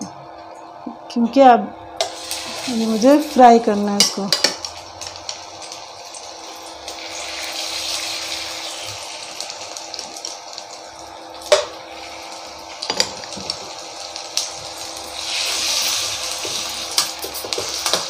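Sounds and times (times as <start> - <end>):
chicken sizzling in hot oil: 2.0 - 18.0.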